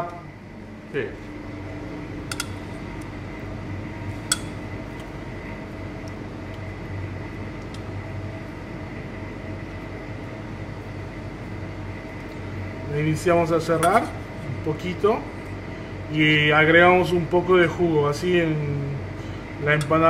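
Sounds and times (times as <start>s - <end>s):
kitchen machine hum: 0.0s - 20.0s.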